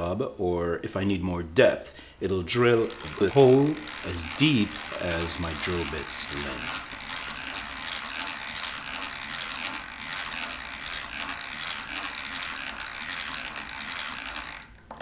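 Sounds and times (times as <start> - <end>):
hand drill cranking into wood: 2.4 - 15.0.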